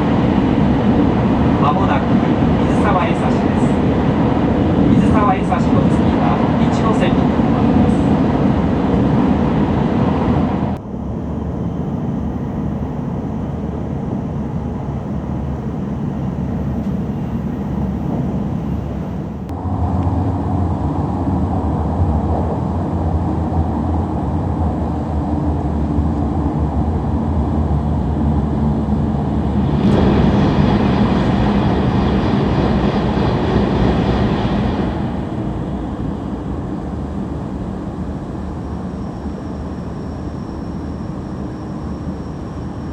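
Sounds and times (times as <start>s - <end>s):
high-speed train rumbling: 0.0s - 42.9s.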